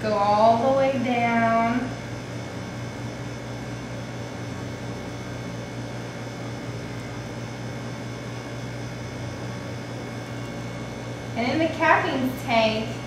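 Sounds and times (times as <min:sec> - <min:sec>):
room noise: 0:00.0 - 0:13.0
steady electrical hum: 0:00.0 - 0:13.0.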